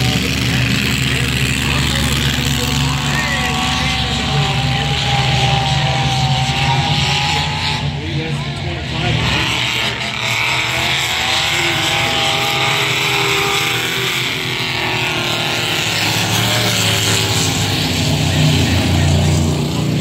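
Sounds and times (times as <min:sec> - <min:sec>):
racing truck engines: 0:00.0 - 0:20.0.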